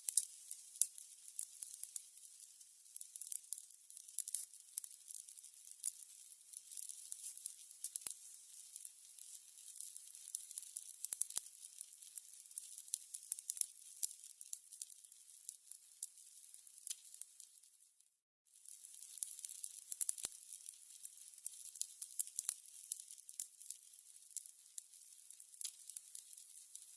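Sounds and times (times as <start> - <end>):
candles crackling: 0.0 - 17.8, 18.6 - 26.9.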